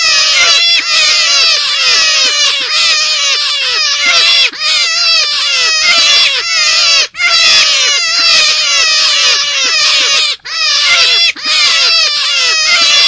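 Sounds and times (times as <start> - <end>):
rabbit lure call squealing: 0.0 - 13.0.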